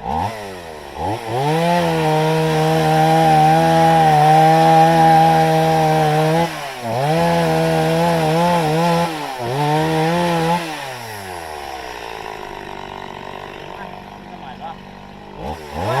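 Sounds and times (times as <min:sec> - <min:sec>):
chainsaw revving: 0:00.0 - 0:16.0.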